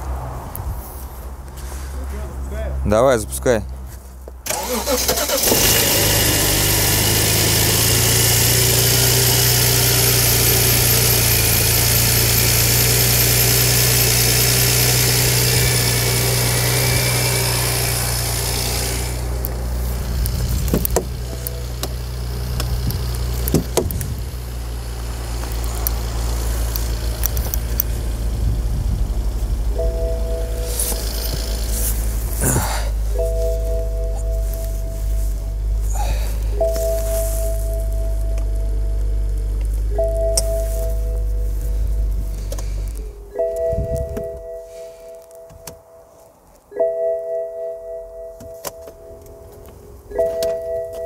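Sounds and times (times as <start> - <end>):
car engine idling: 4.4 - 46.2.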